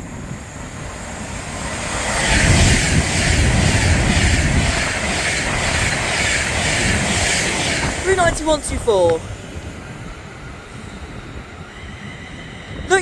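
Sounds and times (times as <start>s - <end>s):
electric train passing at speed: 0.0s - 13.0s.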